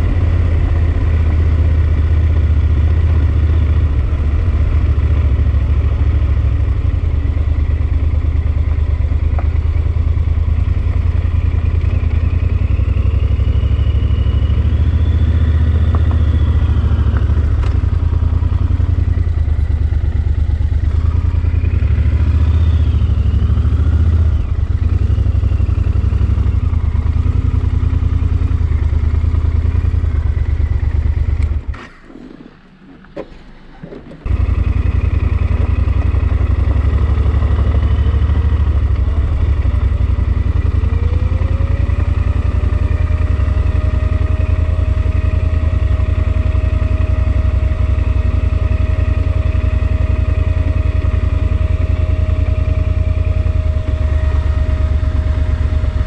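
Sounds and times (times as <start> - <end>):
motorcycle engine drone: 0.0 - 56.0.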